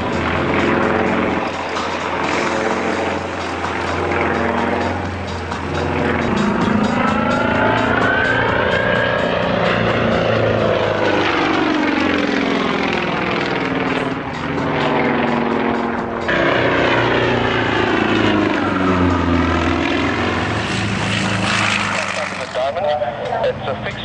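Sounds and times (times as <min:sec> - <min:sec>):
propeller plane engine droning: 0:00.0 - 0:24.0.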